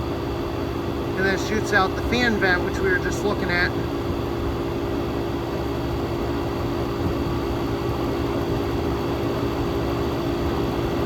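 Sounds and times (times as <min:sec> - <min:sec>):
air conditioner compressor hum: 0:00.0 - 0:11.0.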